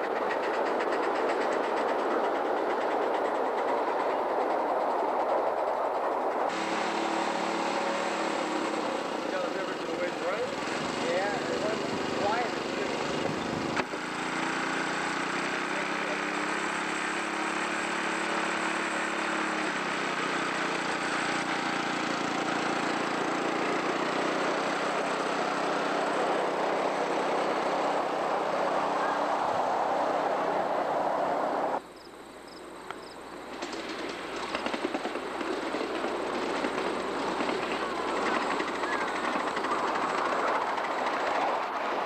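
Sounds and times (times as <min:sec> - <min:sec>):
miniature train motor hum: 0:00.0 - 0:29.0, 0:32.9 - 0:42.0
train wheels rattling on rails: 0:00.0 - 0:29.7, 0:32.7 - 0:42.0.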